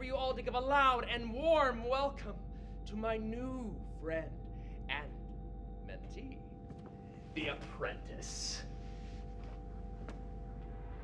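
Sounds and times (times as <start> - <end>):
deep rumble: 0.0 - 11.0
eerie sustained drone: 0.0 - 11.0.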